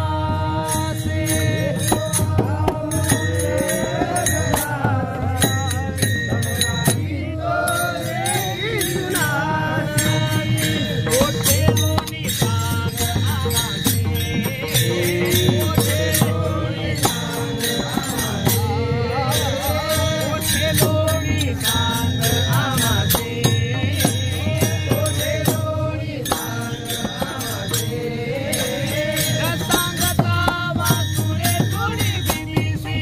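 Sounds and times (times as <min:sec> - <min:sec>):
man singing: 0:00.0 - 0:33.0
small brass hand cymbals: 0:00.0 - 0:33.0.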